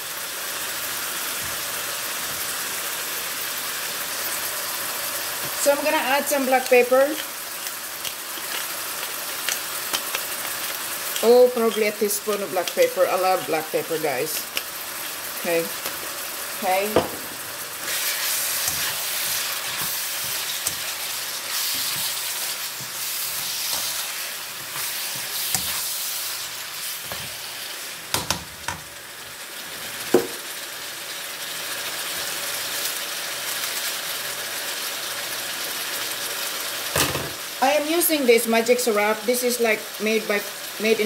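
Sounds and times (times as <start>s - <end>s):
chicken and onions sizzling in a pan: 0.0s - 41.0s.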